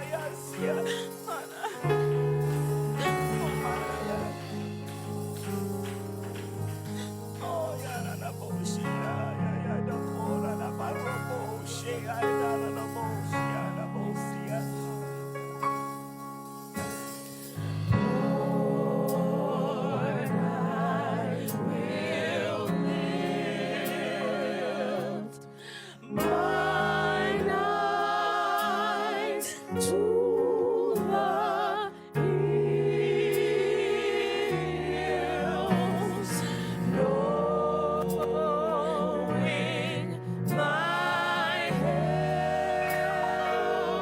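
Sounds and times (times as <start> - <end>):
gospel choir singing: 0.0 - 44.0
low musical accompaniment: 0.0 - 44.0.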